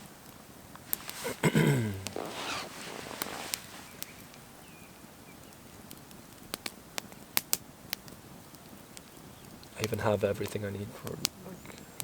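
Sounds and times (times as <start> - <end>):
campfire popping and snapping: 0.0 - 12.0
faint fire hiss: 0.0 - 12.0.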